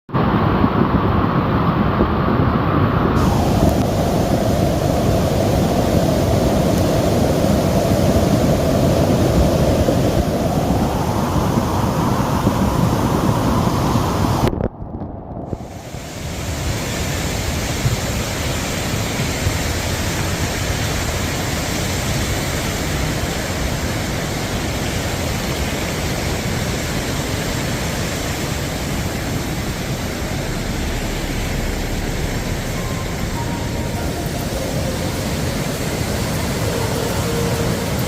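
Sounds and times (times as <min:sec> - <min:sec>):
stream rushing: 0:00.2 - 0:38.0.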